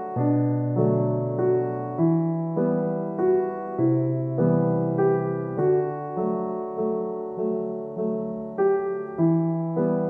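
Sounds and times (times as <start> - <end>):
piano chords: 0.0 - 10.0.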